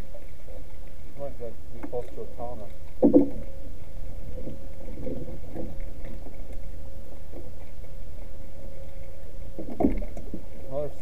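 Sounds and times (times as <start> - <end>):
thin steady hum: 0.0 - 11.0
wind and water rumble: 0.0 - 11.0.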